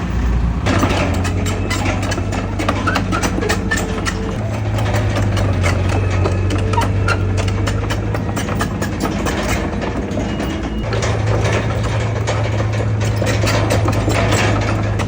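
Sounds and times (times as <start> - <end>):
heavy diesel engine running: 0.0 - 15.0
metallic clicks and clanks: 0.6 - 15.0.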